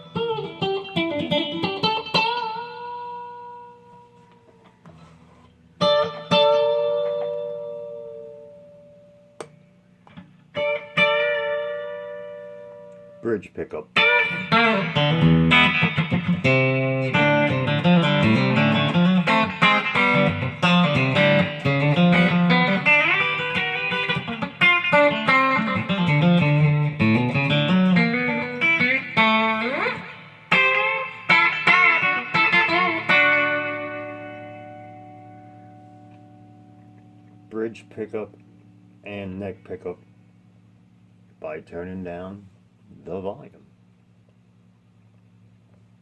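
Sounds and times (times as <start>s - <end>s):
electric guitar notes and chords: 0.0s - 4.7s, 5.8s - 13.2s, 13.9s - 39.5s.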